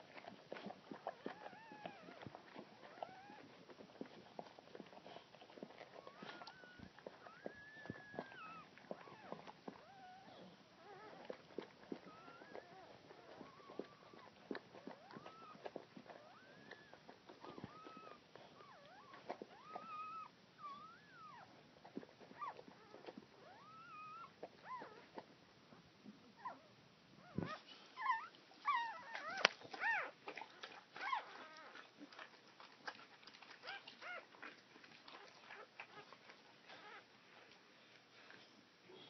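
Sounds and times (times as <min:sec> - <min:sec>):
puppies whimpering: 0:00.1 - 0:21.5, 0:22.3 - 0:25.0, 0:27.2 - 0:32.3, 0:33.0 - 0:37.1.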